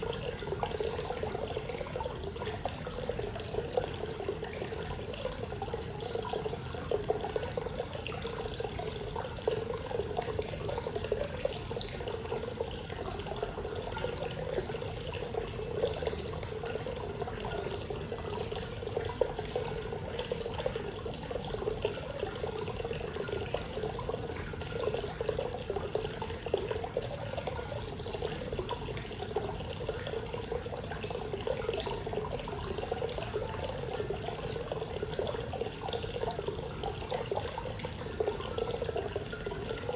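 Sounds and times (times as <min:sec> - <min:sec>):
water pouring into a bath: 0:00.0 - 0:39.9.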